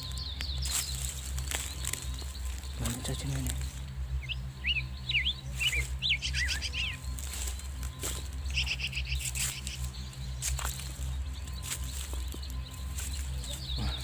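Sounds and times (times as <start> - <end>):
bird trill: 0.0 - 14.0
small birds chirping: 0.0 - 14.0.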